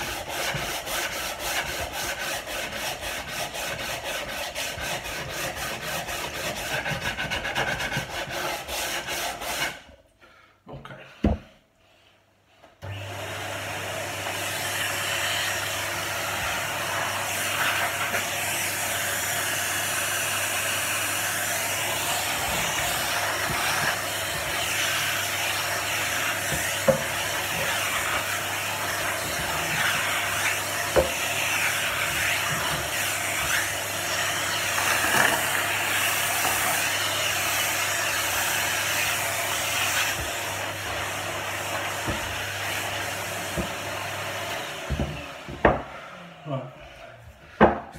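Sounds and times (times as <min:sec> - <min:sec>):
sanding wood: 0:00.0 - 0:09.8, 0:14.4 - 0:45.8.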